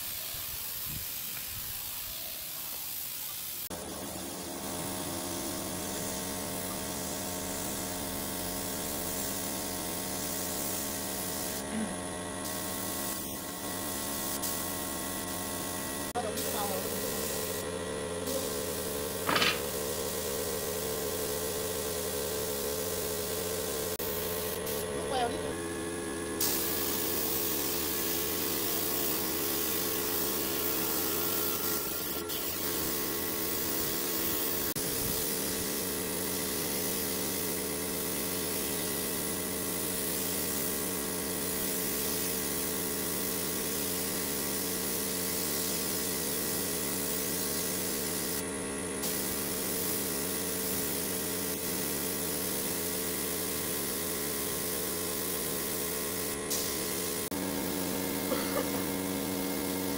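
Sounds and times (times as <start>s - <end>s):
spray gun hissing: 0.0s - 59.9s.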